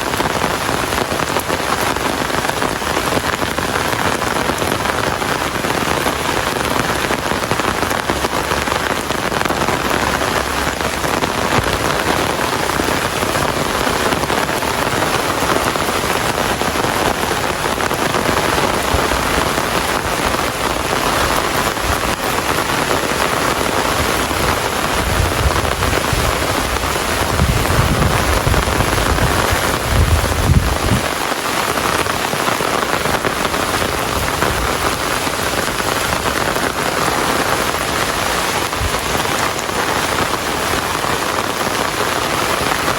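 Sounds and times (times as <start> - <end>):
steady rain hissing: 0.0 - 42.9.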